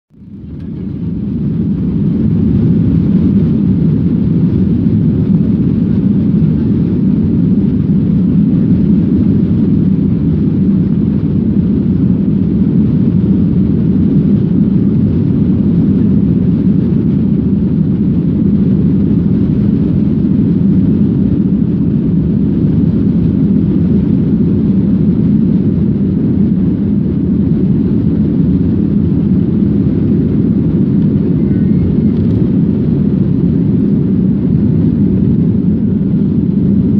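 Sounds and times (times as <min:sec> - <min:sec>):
airliner cabin engine rumble: 0:00.1 - 0:36.9.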